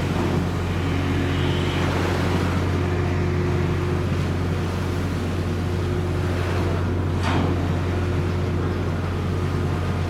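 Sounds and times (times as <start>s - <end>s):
ship engines droning: 0.0s - 10.0s
water rushing and churning: 0.0s - 10.0s.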